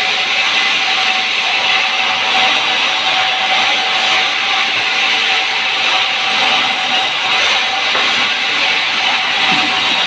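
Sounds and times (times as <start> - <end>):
saw cutting through log: 0.0 - 10.0.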